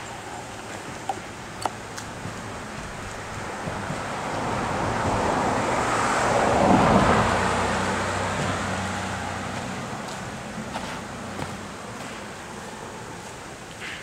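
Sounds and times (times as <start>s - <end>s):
passing vehicle road noise: 1.2s - 13.6s.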